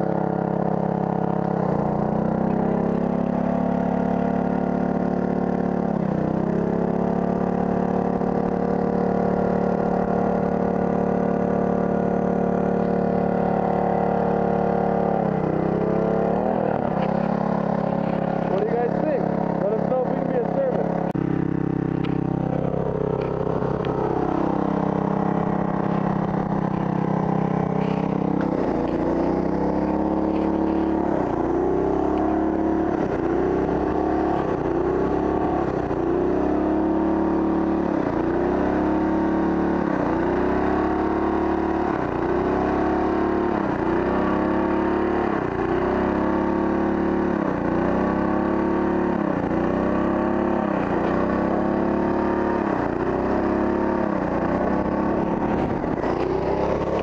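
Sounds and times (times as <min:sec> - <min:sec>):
pressure washer engine running: 0:00.0 - 0:57.0.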